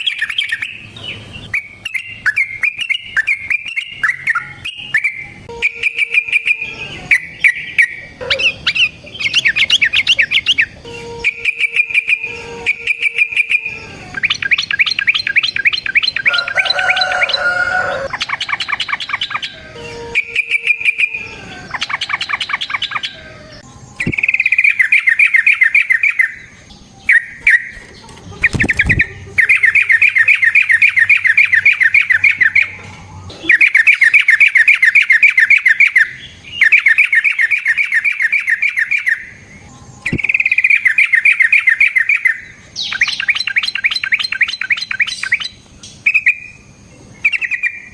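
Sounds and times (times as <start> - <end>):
bird chattering trills: 0.0 - 47.9.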